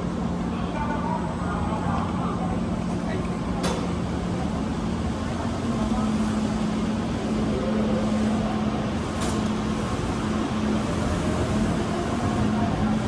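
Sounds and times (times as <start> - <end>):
train hum and rumble: 0.0 - 13.0.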